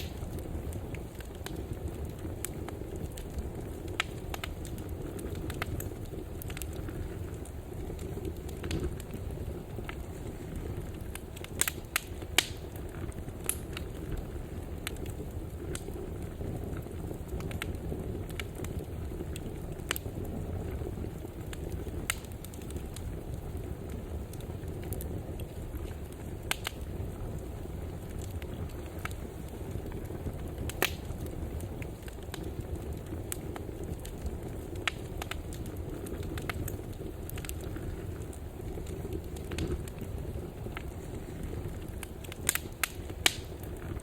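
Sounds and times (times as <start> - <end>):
fire crackles and pops: 0.0 - 44.0
fire flames rumbling: 0.0 - 44.0.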